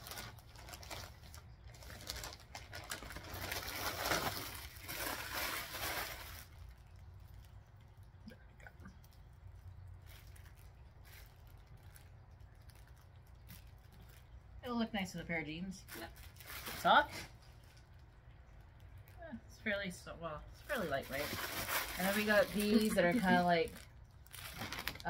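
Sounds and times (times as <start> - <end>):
plastic bag crinkling: 0.0 - 7.6, 9.0 - 14.6, 15.8 - 19.2, 20.6 - 25.0.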